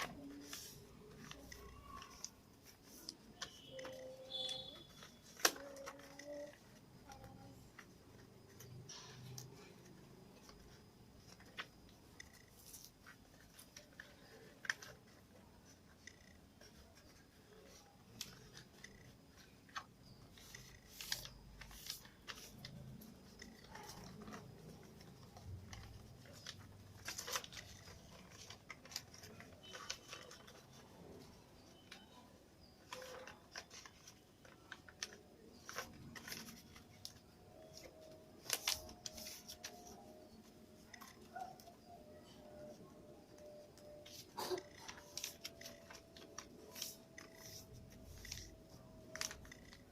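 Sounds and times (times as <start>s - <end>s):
paper being folded and creased: 0.0s - 49.9s.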